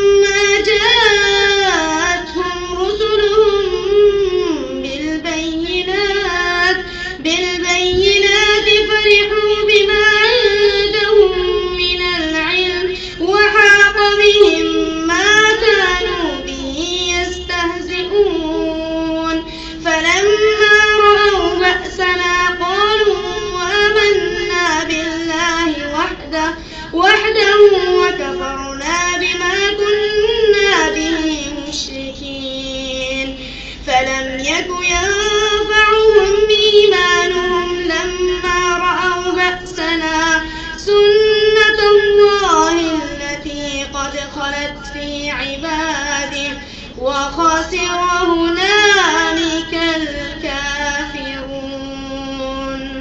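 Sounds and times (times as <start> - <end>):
person chanting recitation: 0.0 - 53.0.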